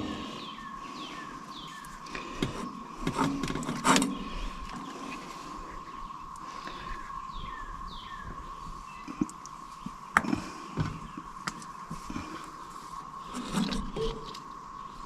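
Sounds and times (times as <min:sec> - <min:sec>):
steady high hum: 0:00.0 - 0:15.0.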